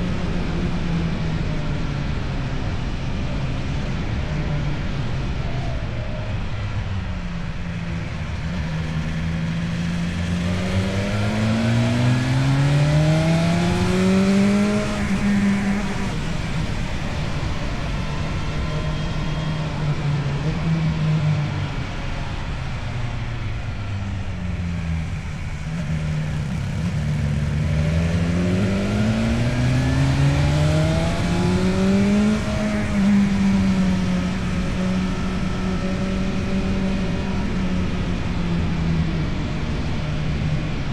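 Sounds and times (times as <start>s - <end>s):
motorcycle engine revving: 6.8s - 40.9s.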